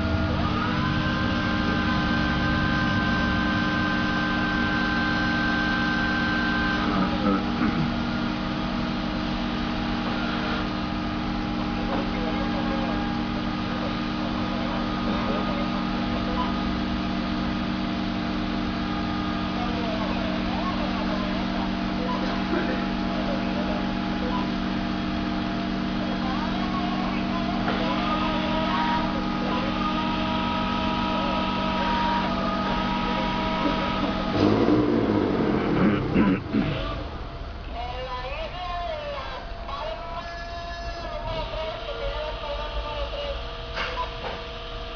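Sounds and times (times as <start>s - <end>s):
hydraulic pump motor humming: 0.0s - 44.9s.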